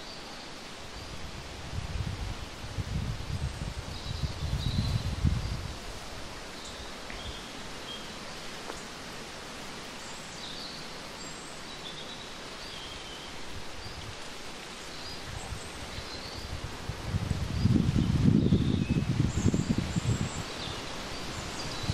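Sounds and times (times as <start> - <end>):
soft woodland hiss: 0.0 - 21.9.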